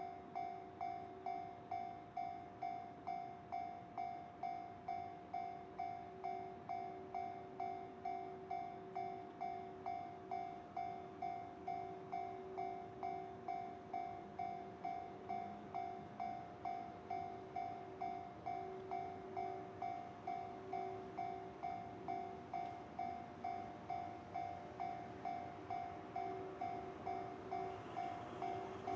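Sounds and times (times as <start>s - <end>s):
level-crossing bell ringing: 0.0s - 28.9s.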